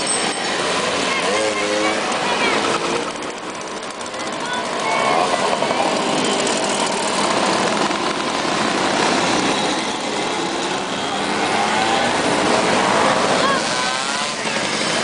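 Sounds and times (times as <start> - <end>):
mopeds riding past: 0.1 - 15.0.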